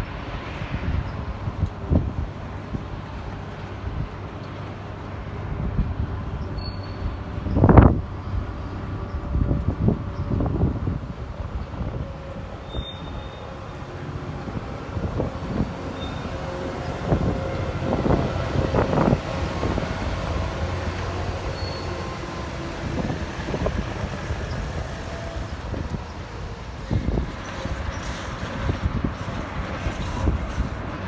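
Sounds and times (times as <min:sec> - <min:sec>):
train rolling along track: 0:00.0 - 0:31.0
wheels knocking: 0:01.4 - 0:29.3.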